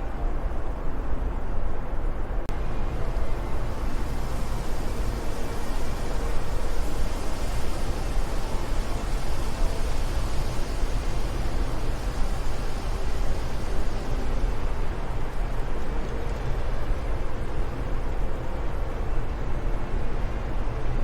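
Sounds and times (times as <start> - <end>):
steady wind rushing: 0.0 - 21.0.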